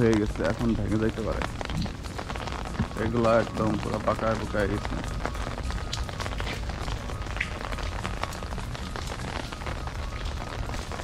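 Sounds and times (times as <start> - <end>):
freezing rain hissing: 0.0 - 11.0
ice pellets ticking: 0.0 - 11.0.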